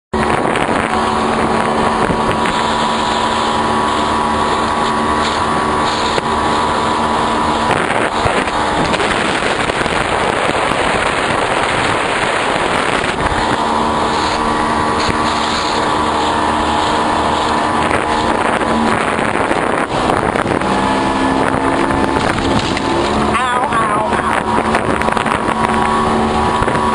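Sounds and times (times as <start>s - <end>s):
boat motor humming: 0.1s - 26.9s
rushing wind and water: 0.1s - 26.9s.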